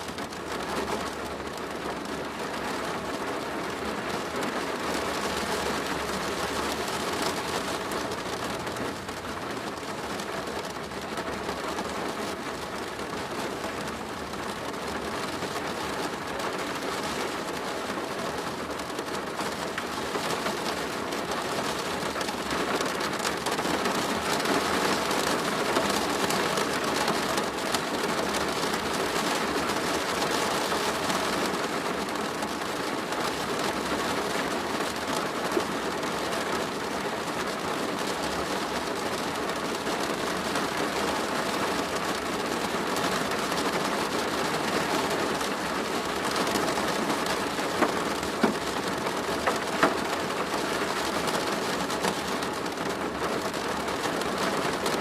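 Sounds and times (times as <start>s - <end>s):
rain pattering on a plastic roof: 0.0s - 55.0s.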